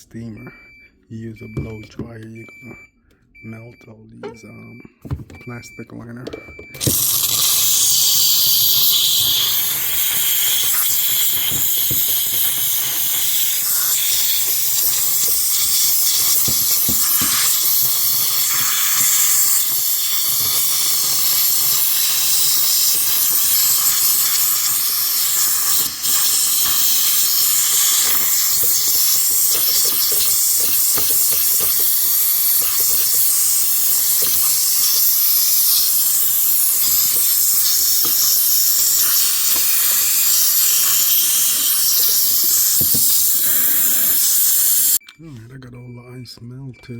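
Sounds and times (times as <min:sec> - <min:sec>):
handheld steamer hissing: 0:06.8 - 0:45.0.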